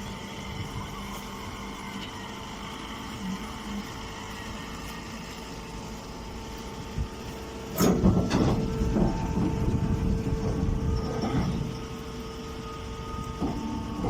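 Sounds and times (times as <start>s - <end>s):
baler machine hum: 0.0s - 14.0s
mechanical rumble and clatter: 0.0s - 14.0s.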